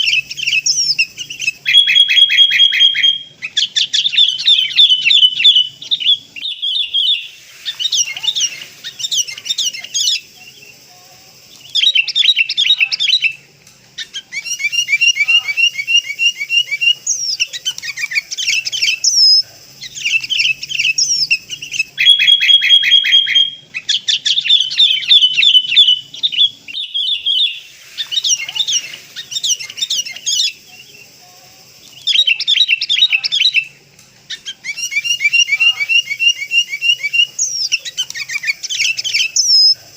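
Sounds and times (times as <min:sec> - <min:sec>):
bulbul chattering chirps: 0:00.0 - 0:39.9.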